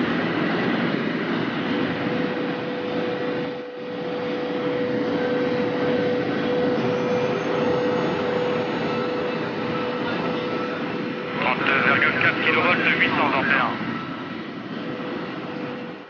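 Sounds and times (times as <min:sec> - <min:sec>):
train rushing noise: 0:00.0 - 0:16.0
mid-pitched whine: 0:01.5 - 0:16.0.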